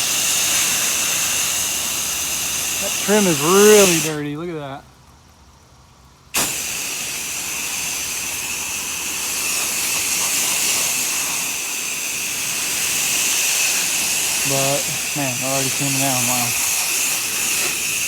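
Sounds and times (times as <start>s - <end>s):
spray nozzle hissing: 0.0s - 4.2s, 6.4s - 18.0s.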